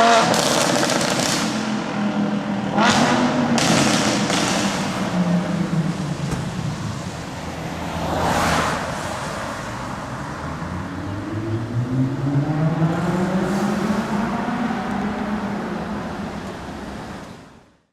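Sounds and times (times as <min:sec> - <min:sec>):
car engine and exhaust revving: 0:00.0 - 0:17.2.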